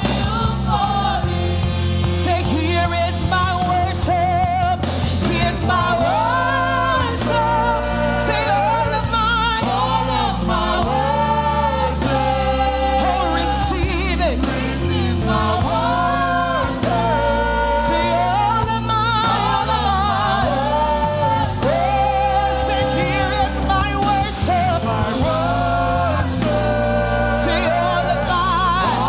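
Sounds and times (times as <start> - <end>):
band bass notes: 0.0 - 29.0
voices singing long notes: 5.2 - 29.0.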